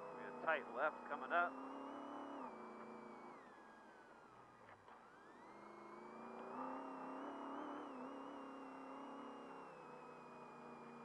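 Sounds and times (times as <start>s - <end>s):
race truck engine revving: 0.0s - 3.6s, 5.3s - 11.0s.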